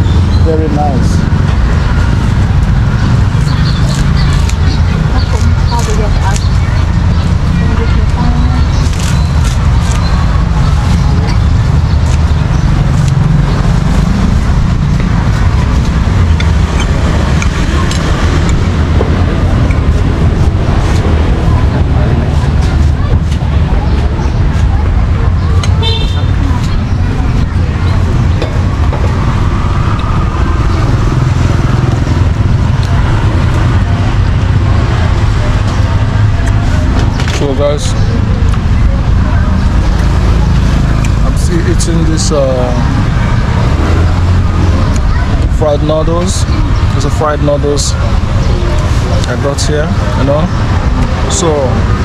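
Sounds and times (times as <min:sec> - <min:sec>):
cars passing: 0:00.0 - 0:52.0
motorbikes passing: 0:00.0 - 0:52.0
street traffic rumble: 0:00.0 - 0:52.0.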